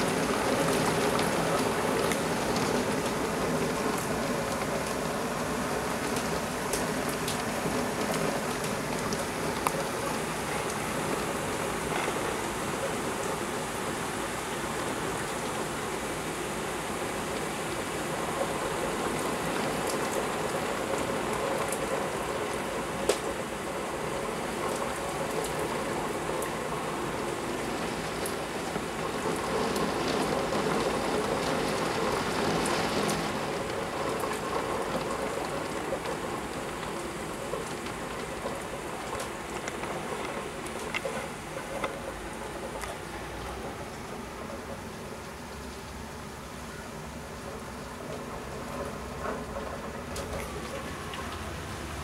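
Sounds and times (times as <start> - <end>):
torrential rain hiss: 0.0 - 52.0.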